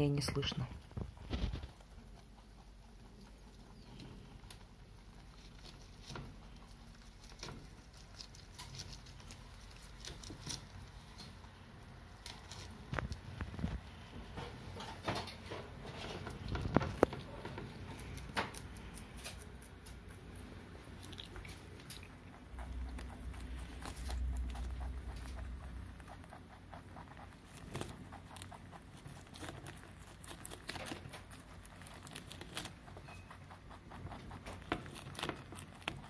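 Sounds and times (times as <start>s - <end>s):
rabbits chewing leaves: 0.0s - 36.0s.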